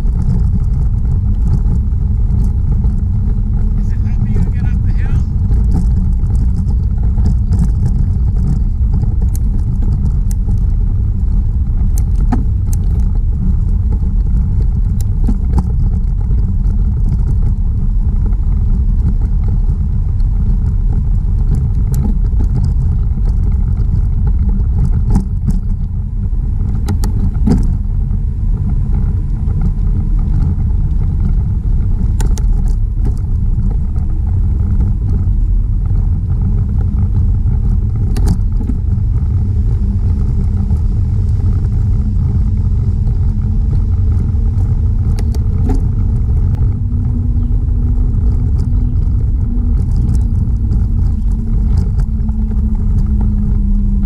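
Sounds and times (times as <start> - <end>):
bike clicks and rattles: 0.0 - 54.0
tyre noise on trail: 0.0 - 54.0
wind buffeting microphone: 0.0 - 54.0.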